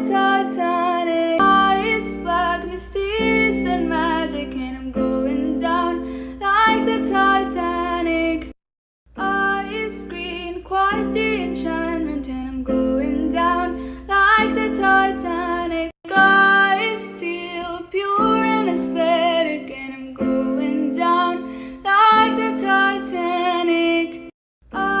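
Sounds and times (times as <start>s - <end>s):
person singing: 0.0s - 8.5s, 9.2s - 25.0s.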